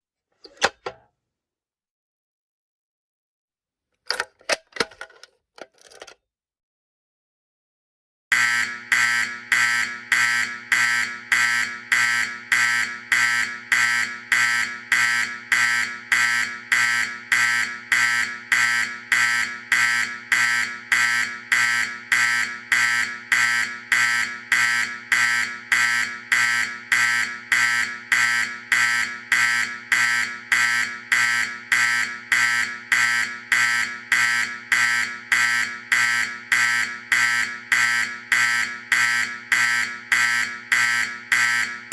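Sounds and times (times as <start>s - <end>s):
fire alarm horn buzzing: 8.3s - 41.9s.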